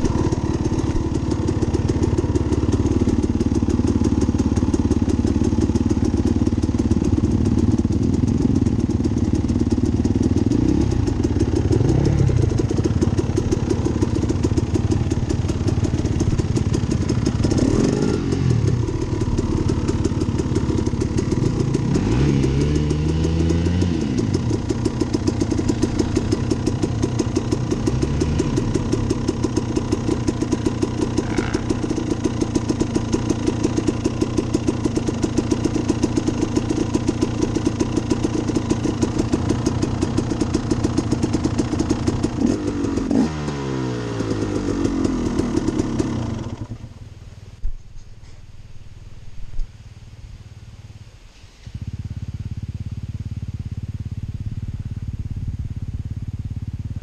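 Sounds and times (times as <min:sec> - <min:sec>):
dirt bike engine revving and idling: 0:00.0 - 0:57.0.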